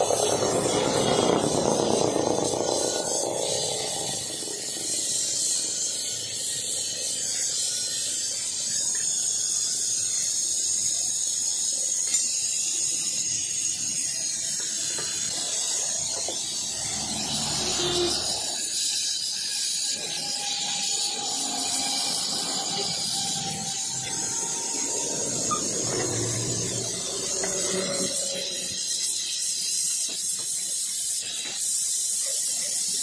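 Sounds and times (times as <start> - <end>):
welding torch flame hissing: 0.0 - 33.0.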